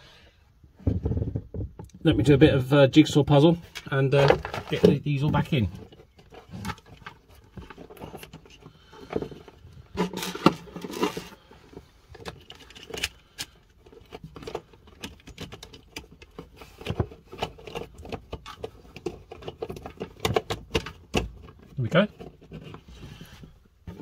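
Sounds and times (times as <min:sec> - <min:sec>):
rustling and knocking: 0:00.6 - 0:02.2, 0:03.6 - 0:13.0, 0:13.7 - 0:24.0.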